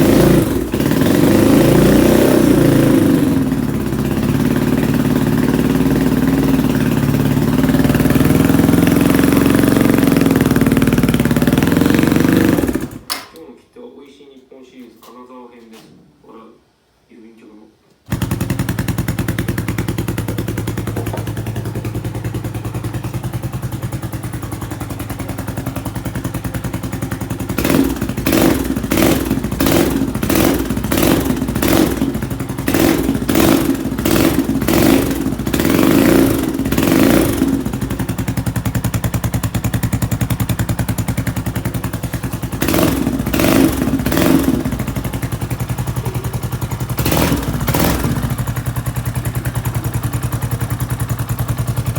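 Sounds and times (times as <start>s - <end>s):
engine idling and revving: 0.0s - 13.0s, 18.1s - 51.9s.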